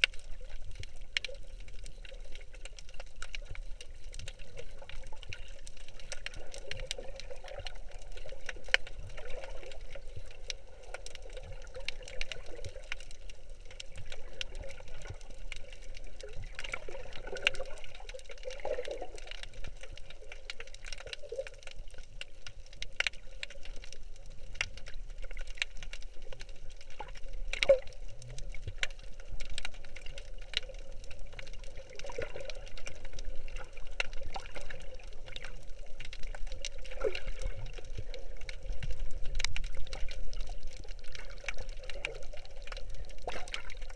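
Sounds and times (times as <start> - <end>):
sharp underwater clicks: 0.0 - 43.9
underwater moving seawater: 0.0 - 43.9.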